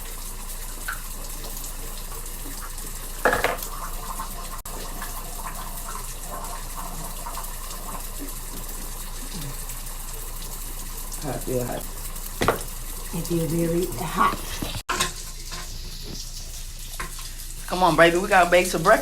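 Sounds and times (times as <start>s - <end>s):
water running from tap: 0.0s - 19.0s.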